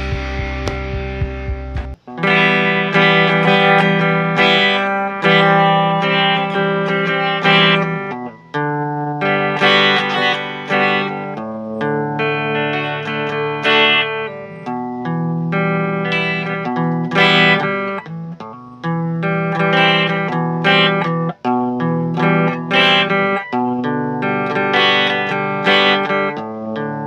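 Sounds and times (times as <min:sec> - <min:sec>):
electric guitar chords and notes: 0:00.0 - 0:27.0.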